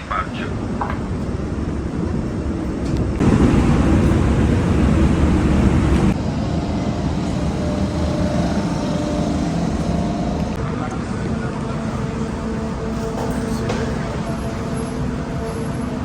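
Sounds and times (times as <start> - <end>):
engines rumbling: 0.4 - 16.0.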